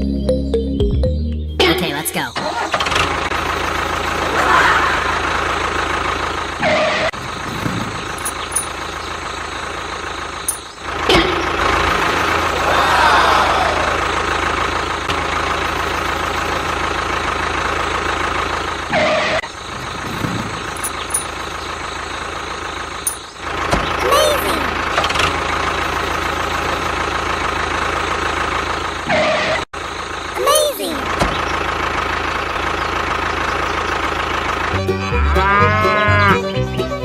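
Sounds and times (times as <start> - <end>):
engine running steadily: 1.6 - 37.0.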